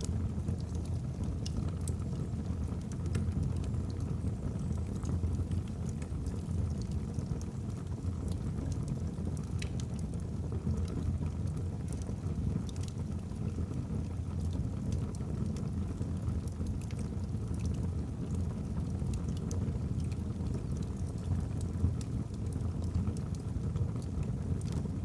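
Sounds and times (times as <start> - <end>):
logs crackling and popping: 0.0 - 13.8, 16.4 - 25.0.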